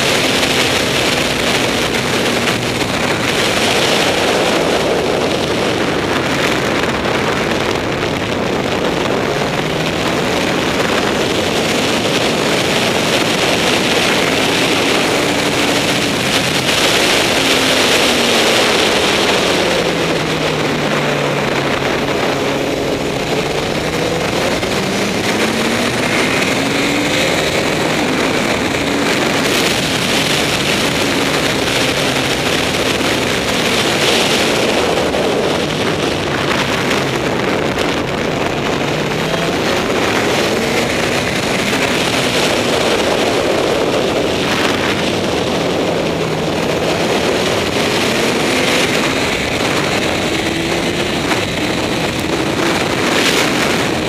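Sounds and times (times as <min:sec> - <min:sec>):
heavy wind rush on microphone: 0:00.0 - 0:54.0
motorcycle engine: 0:00.0 - 0:54.0.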